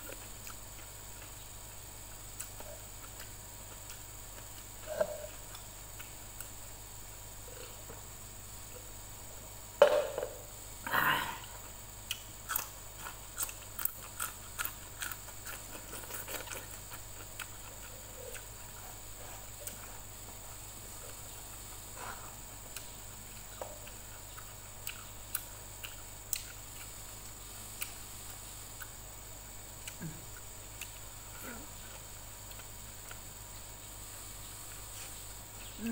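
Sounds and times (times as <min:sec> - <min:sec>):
crunchy chewing: 0:00.0 - 0:09.0, 0:11.1 - 0:35.9.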